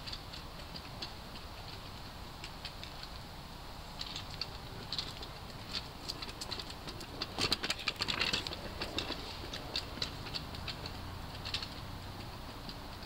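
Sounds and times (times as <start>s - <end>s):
scooter wheels clicking over flagstones: 0.0s - 13.0s.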